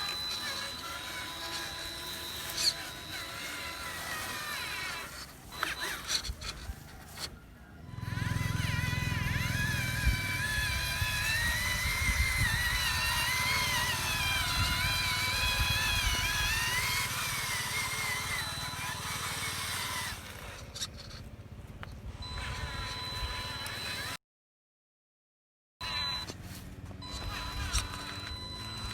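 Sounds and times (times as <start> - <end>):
toy truck electric motor whining: 0.0 - 24.2, 25.8 - 28.9.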